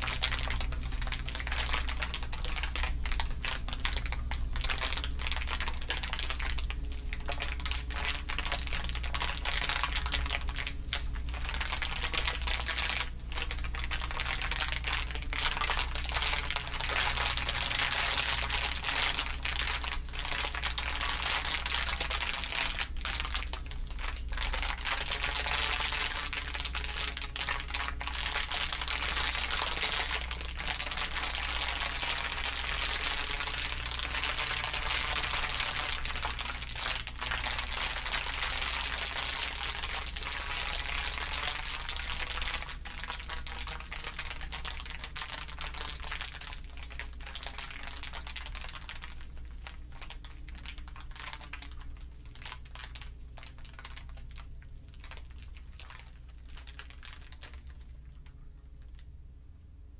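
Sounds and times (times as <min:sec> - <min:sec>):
dense crinkling: 0:00.0 - 0:59.1
steady low hum: 0:00.0 - 0:59.9.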